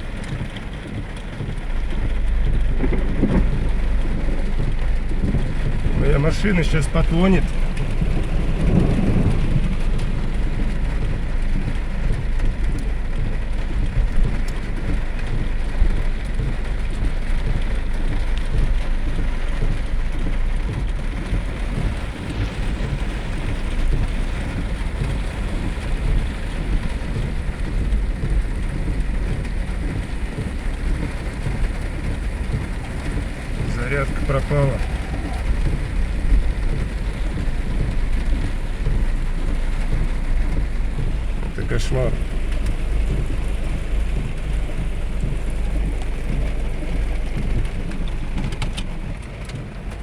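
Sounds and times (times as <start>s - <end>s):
constant low rumble: 0.0s - 50.0s
heavy rain on hard surfaces: 0.0s - 50.0s.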